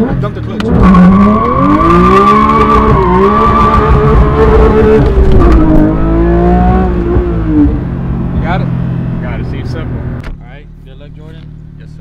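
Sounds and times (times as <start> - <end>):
sports car engine revving: 0.0 - 10.2.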